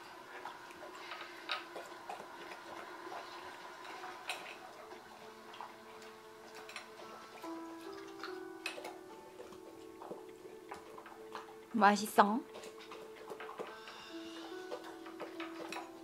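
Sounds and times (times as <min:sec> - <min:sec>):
dog licking and chewing: 0:00.0 - 0:16.0.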